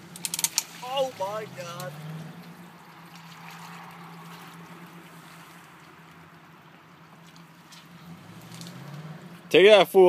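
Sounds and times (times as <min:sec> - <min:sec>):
rushing watery noise: 0:00.0 - 0:09.5
vehicle engine running: 0:00.0 - 0:10.0.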